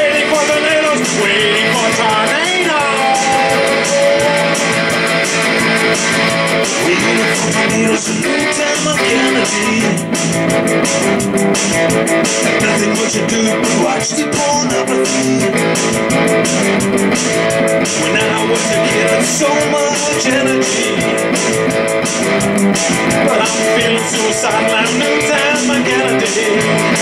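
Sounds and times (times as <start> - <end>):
electric guitar strumming rock: 0.0 - 27.0.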